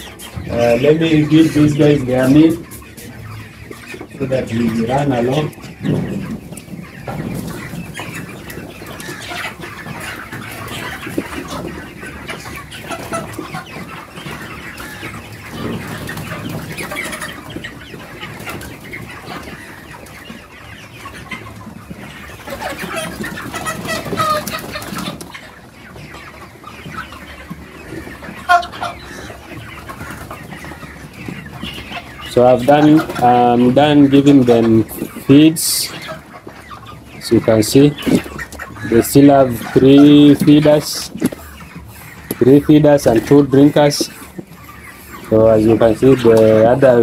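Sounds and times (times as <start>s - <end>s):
chickens cheeping and clucking: 0.0s - 47.0s.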